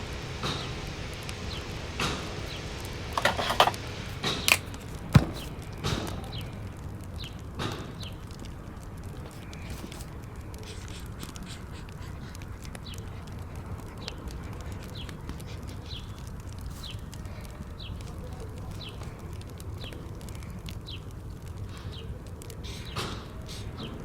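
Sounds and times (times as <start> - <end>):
fireplace crackling: 2.6 - 22.6.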